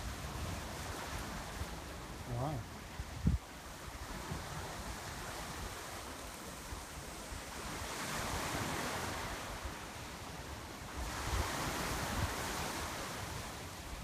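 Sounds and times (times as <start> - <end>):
waves on choppy water: 0.0 - 14.0
wind buffeting microphone: 0.0 - 14.0.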